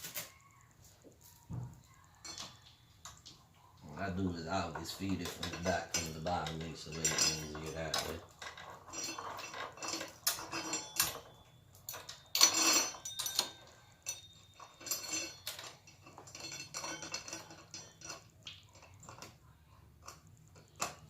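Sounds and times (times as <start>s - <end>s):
metal chain clinking and rattling: 1.8s - 21.0s.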